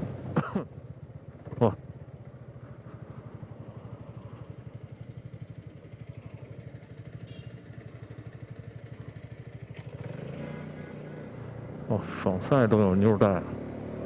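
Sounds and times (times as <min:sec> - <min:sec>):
scooter engine running: 0:00.0 - 0:11.9.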